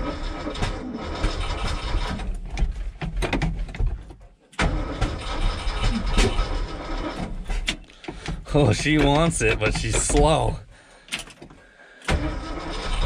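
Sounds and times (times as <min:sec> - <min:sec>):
starter cranking engine: 0:00.0 - 0:02.8, 0:04.6 - 0:13.0.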